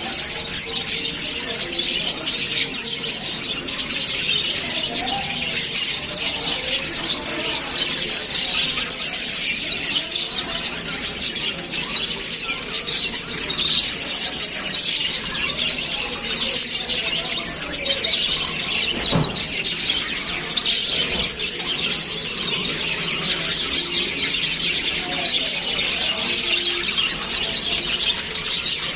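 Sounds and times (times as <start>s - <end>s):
lovebirds chattering: 0.0s - 28.9s.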